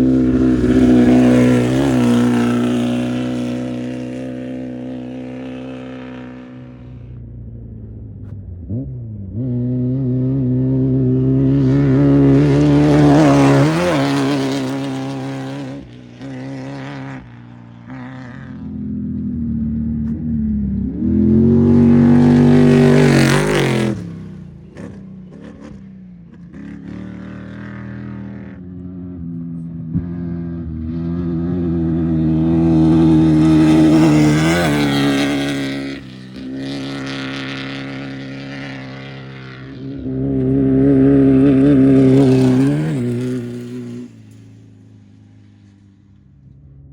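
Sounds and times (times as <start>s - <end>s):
race vehicles passing at full throttle: 0.0s - 46.9s.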